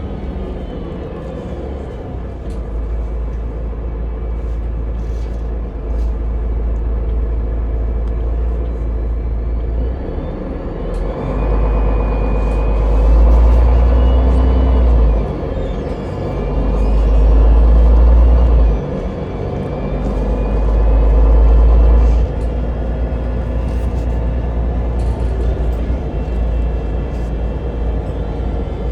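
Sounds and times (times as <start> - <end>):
vehicle cabin rumble: 0.0 - 28.9.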